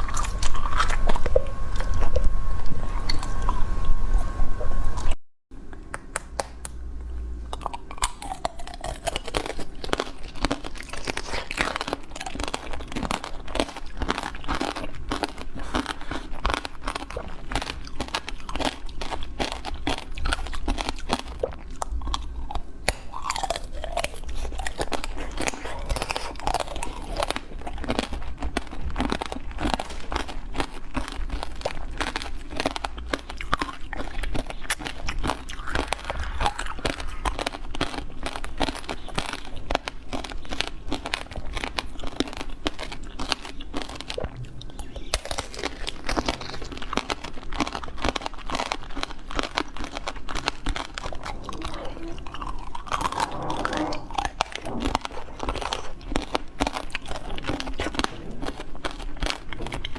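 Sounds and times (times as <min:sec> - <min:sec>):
crunching and chewing: 0:00.0 - 0:04.0, 0:05.0 - 0:59.9.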